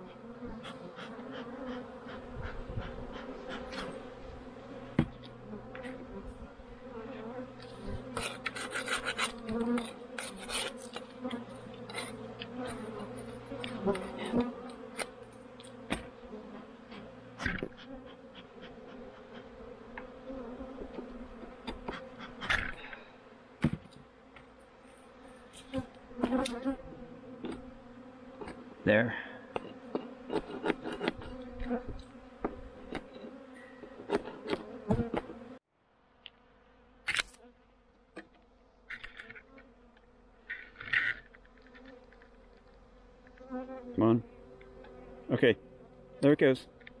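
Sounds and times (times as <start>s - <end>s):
bees buzzing: 0.0s - 35.6s, 36.2s - 47.0s.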